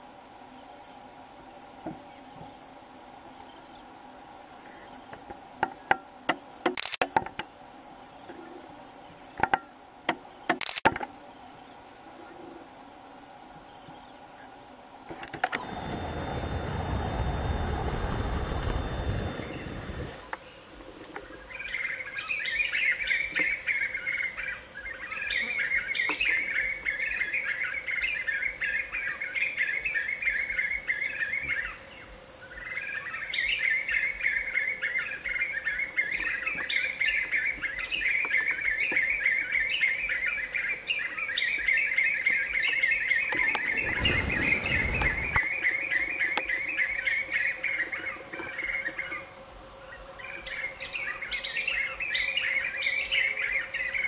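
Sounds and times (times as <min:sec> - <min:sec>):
birds singing in chorus: 0:00.0 - 0:06.7, 0:11.3 - 0:54.0.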